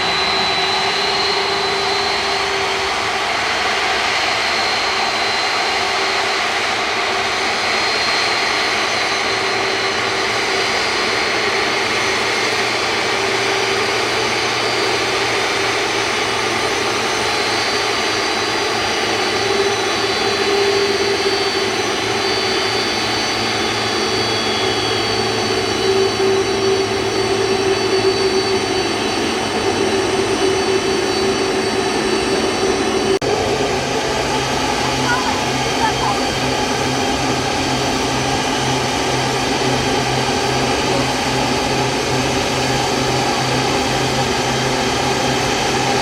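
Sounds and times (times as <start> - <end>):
high engine whine: 0.0 - 46.0
jet engines running: 0.0 - 46.0.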